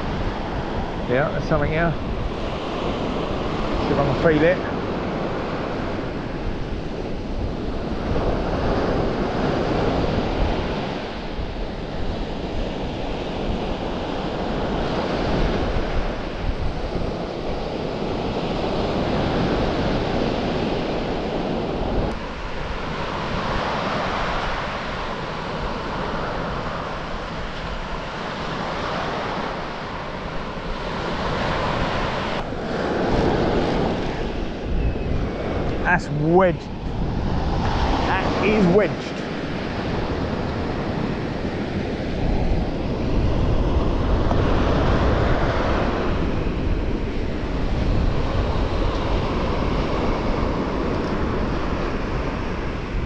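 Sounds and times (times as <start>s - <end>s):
surf washing onto beach: 0.0s - 53.0s
wind on microphone: 0.0s - 53.0s.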